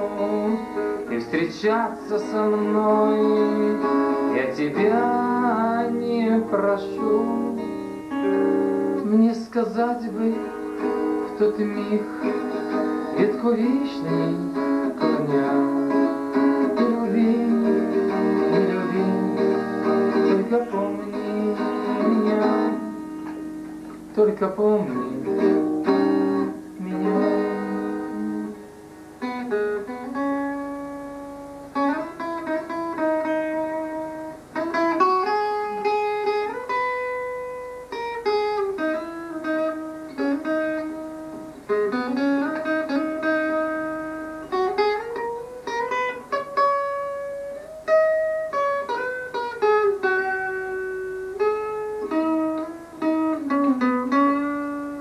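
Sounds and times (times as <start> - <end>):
fingerstyle classical guitar: 0.0 - 55.0.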